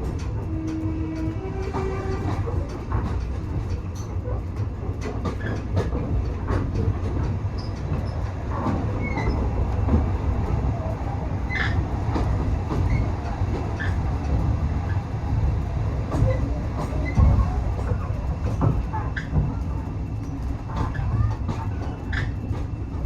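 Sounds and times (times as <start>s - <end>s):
train coach rumbling on track: 0.0s - 23.0s.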